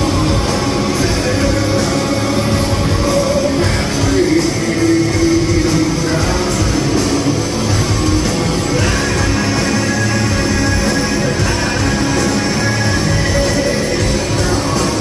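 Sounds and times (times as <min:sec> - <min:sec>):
distorted electric guitar riffing: 0:00.0 - 0:15.0
live hard rock band: 0:00.0 - 0:15.0.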